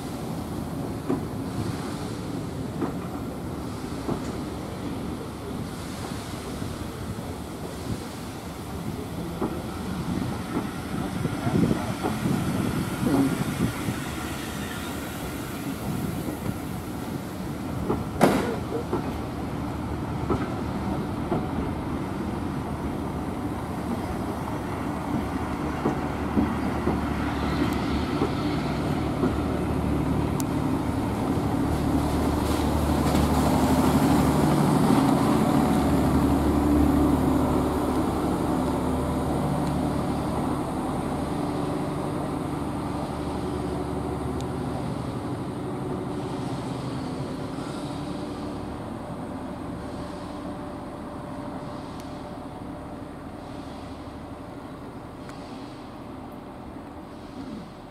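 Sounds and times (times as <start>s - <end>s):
rail clicks: 0.0s - 57.9s
train wheels rumbling on rails: 0.0s - 57.9s.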